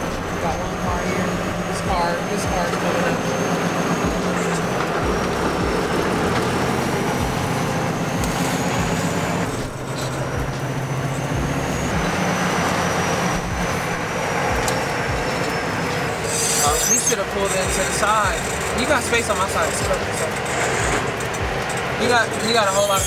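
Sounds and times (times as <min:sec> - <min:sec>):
diesel engine drone: 0:00.0 - 0:23.0
road noise: 0:00.0 - 0:23.0.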